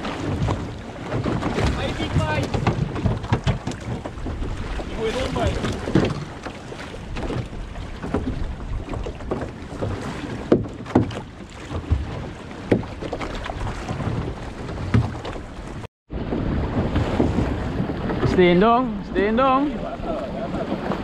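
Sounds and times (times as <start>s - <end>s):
wind buffeting microphone: 0.0s - 11.1s, 11.7s - 21.0s
water slapping against boat hull: 0.0s - 21.0s.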